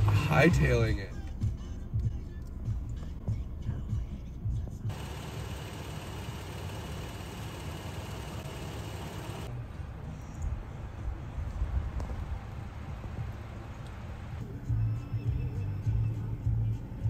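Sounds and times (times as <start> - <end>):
truck engine idling: 0.0 - 14.8.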